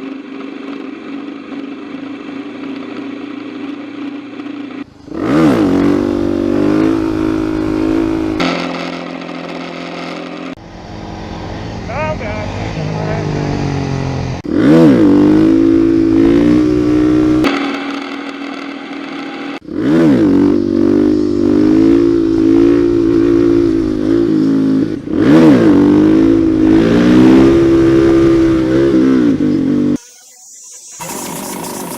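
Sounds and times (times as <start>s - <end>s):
motorcycle engine revving: 0.0s - 30.0s, 30.9s - 31.9s.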